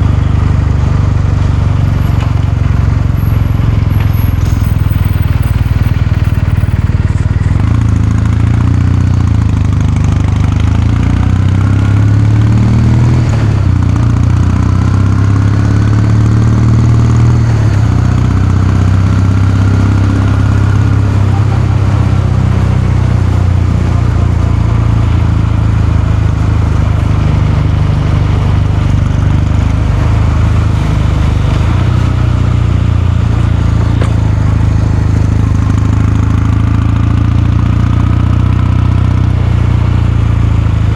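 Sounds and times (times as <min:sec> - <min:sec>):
motorcycle engine running steadily: 0:00.0 - 0:40.9.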